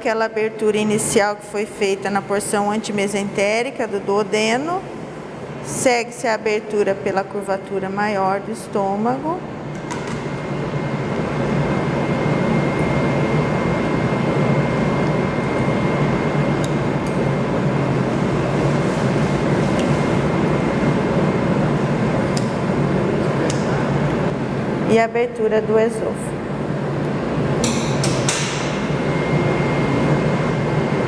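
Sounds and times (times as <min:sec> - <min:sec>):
mechanical hum and hiss: 0:00.0 - 0:31.0.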